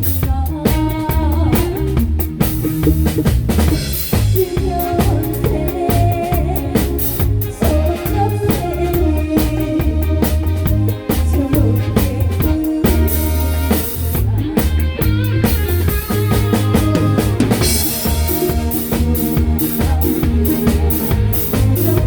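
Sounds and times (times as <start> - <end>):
drum kit beat: 0.0 - 22.0
rock band playing live: 0.0 - 22.0.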